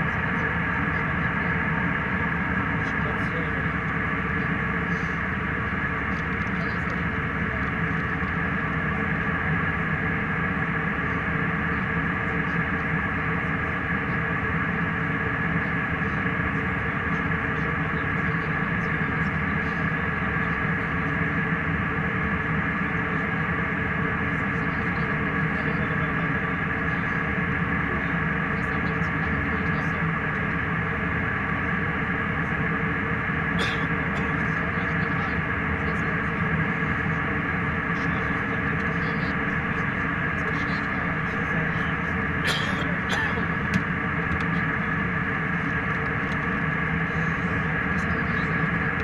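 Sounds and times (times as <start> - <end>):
airliner cabin drone: 0.0 - 49.0
steady tonal hum: 0.0 - 49.0.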